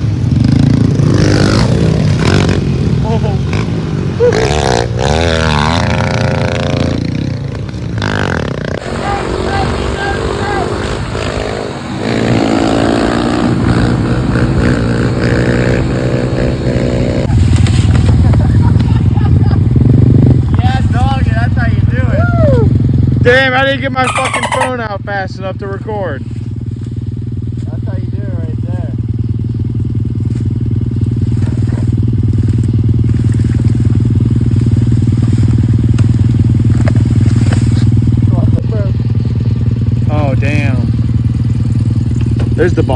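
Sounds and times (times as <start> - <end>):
pit bike engine running: 0.0 - 42.9.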